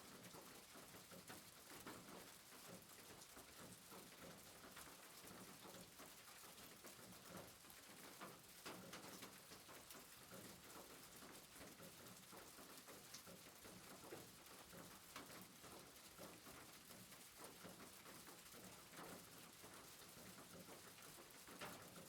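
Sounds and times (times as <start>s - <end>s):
soft rain hiss: 0.0s - 22.0s
raindrop ticks: 0.1s - 22.0s.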